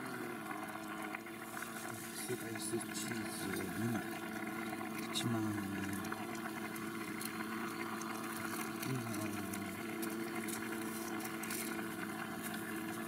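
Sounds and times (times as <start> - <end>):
soup boiling and bubbling: 0.0 - 13.0
steady low hum: 0.0 - 13.0.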